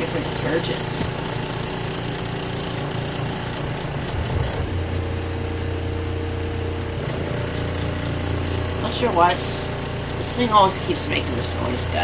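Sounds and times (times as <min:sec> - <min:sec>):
exhaust fan whirring: 0:00.0 - 0:12.0
low machine hum: 0:00.0 - 0:12.0.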